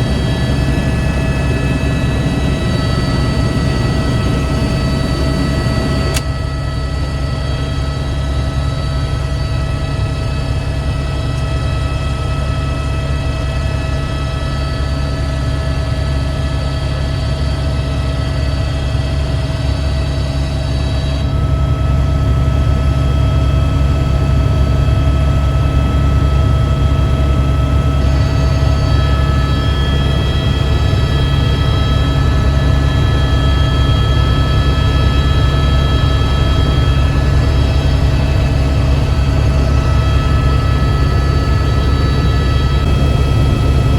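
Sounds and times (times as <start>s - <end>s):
helicopter engine and rotor rumble: 0.0s - 43.9s
steady whining tones: 0.0s - 43.9s.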